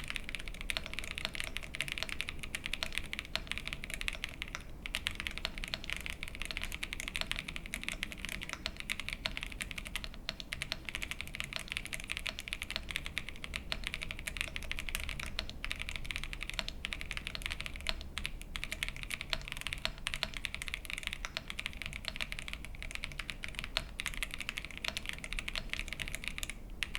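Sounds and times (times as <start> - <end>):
fast mechanical keyboard typing: 0.0 - 26.9.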